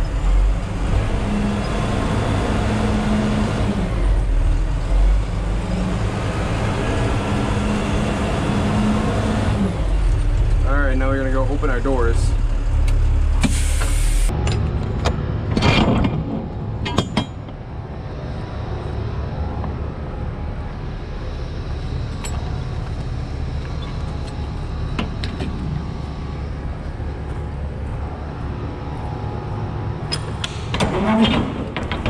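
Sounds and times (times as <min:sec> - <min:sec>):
diesel engine running: 0:00.0 - 0:15.6, 0:16.4 - 0:32.0.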